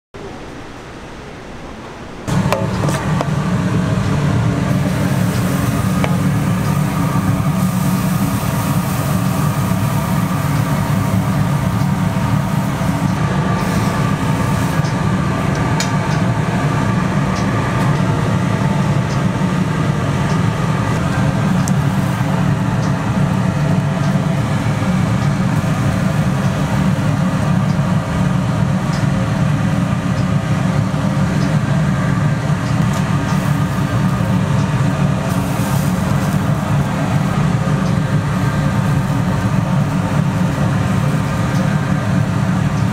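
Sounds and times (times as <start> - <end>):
gas griddle roaring: 0.2 - 42.9.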